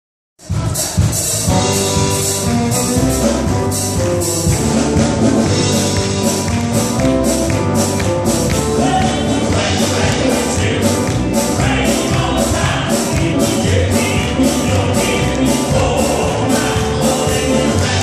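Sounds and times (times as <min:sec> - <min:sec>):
high percussion hits: 0:00.4 - 0:18.0
live gospel band playing: 0:00.4 - 0:18.0.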